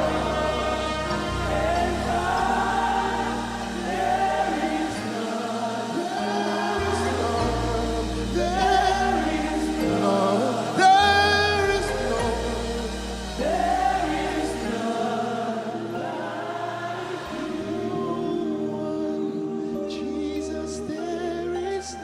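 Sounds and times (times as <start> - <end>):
instrumental chords and bass: 0.0 - 19.1
voices singing gospel: 0.0 - 22.0.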